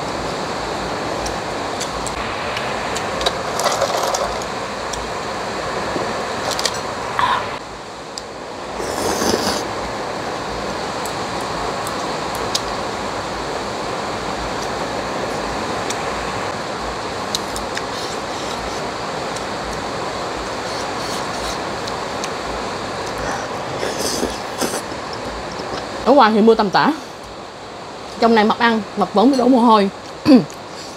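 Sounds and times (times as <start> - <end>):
heavy rain pouring: 0.0 - 28.8.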